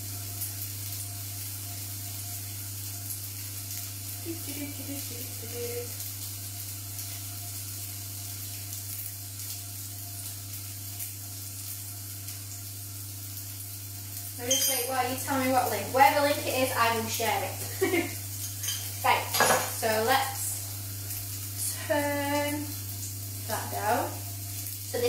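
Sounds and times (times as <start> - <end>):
tofu sizzling in frying pan: 0.0 - 25.0.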